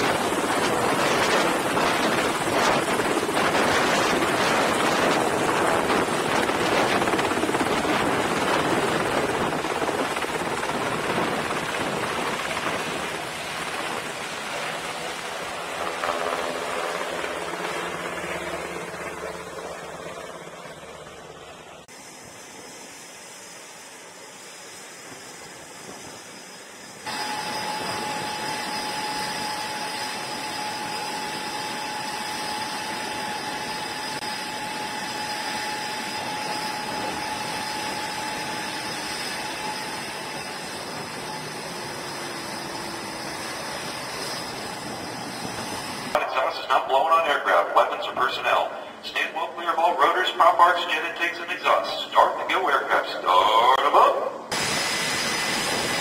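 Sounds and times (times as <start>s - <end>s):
helicopter rotor noise: 0.0s - 56.0s
jet engine rush with high whine: 0.0s - 56.0s.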